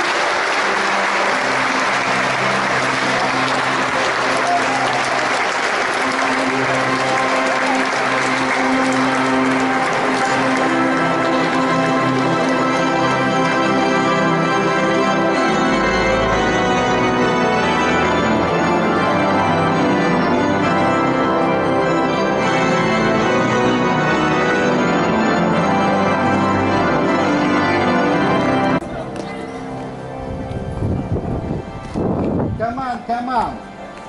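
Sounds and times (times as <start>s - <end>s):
church organ chords: 0.0s - 34.0s.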